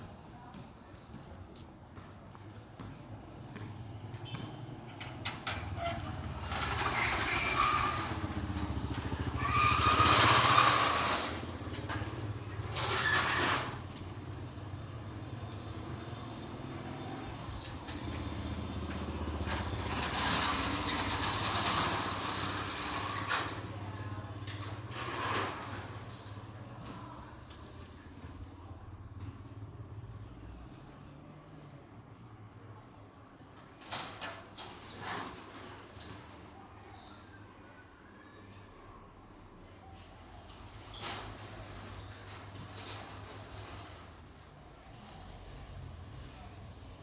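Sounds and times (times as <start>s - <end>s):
motor vehicles passing by: 0.5s - 33.2s, 40.4s - 47.0s.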